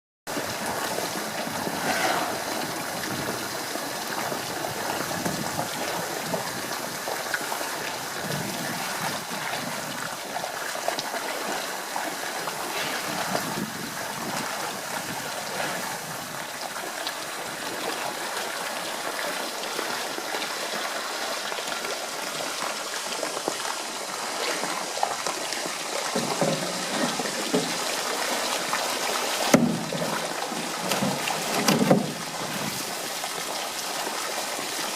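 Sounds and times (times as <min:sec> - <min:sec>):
trickling running water: 0:00.3 - 0:34.9.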